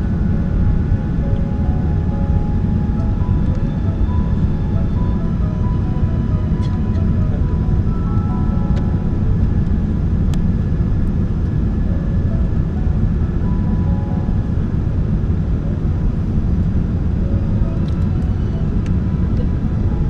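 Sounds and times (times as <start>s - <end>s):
jet engines roaring in cabin: 0.0s - 20.0s.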